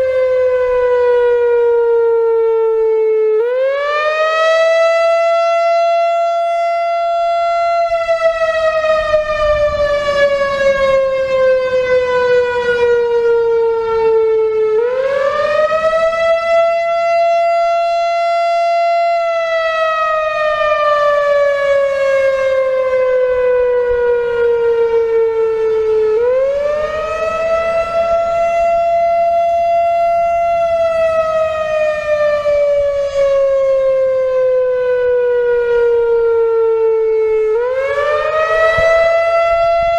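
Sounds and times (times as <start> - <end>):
electronic warning siren wailing: 0.0 - 39.9.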